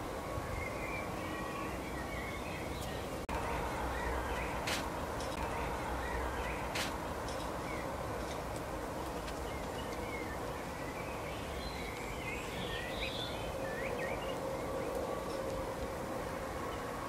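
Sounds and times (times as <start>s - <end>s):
songbirds chirping: 0.0s - 17.0s
steady background hiss: 0.0s - 17.0s.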